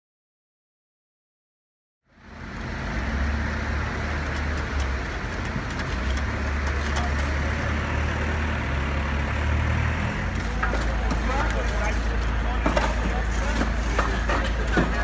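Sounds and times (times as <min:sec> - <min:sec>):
diesel engine droning: 0:02.0 - 0:15.0.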